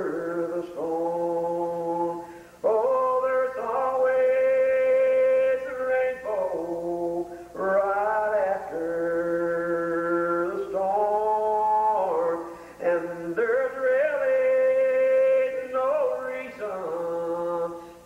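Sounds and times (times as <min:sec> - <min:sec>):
man singing hymn unaccompanied: 0:00.0 - 0:18.0.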